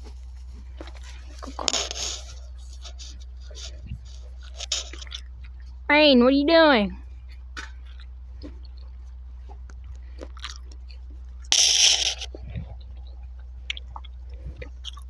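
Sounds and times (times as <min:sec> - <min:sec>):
farm animal chewing: 0:00.0 - 0:15.0.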